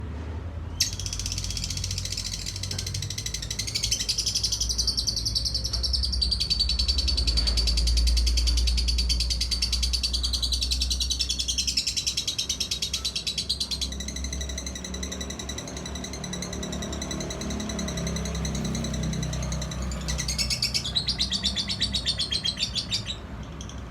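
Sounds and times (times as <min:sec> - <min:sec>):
lovebird chattering trill: 0:00.8 - 0:23.9.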